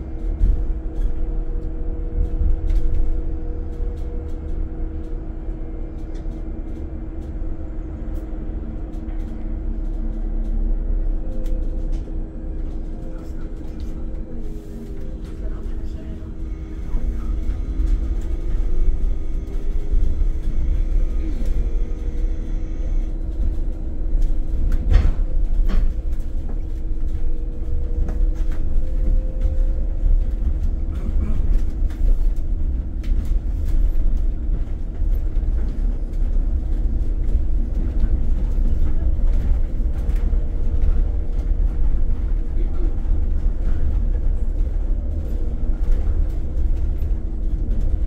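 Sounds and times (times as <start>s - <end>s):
bus cabin rumble: 0.0s - 48.0s.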